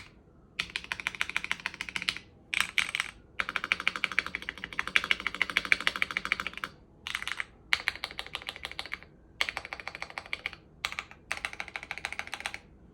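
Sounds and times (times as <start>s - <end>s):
keyboard typing clicks: 0.0s - 12.6s.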